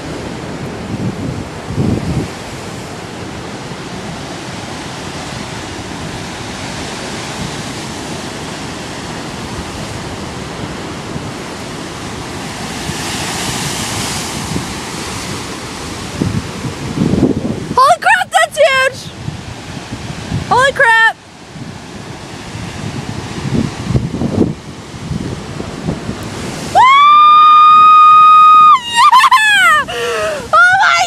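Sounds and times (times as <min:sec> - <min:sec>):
big wave crashing: 0:00.0 - 0:17.8, 0:18.6 - 0:31.0
waves breaking: 0:00.0 - 0:31.0
wind buffeting microphone: 0:00.0 - 0:31.0.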